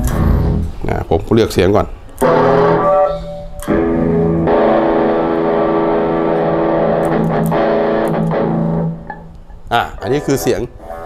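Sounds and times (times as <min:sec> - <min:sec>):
electric guitar chord ringing: 0:00.0 - 0:00.8, 0:02.2 - 0:11.0.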